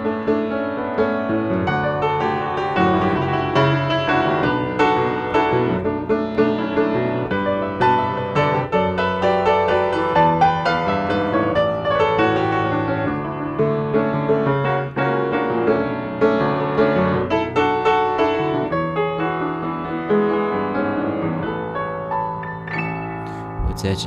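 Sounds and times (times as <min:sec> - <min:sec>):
solo piano chords: 0:00.0 - 0:24.0.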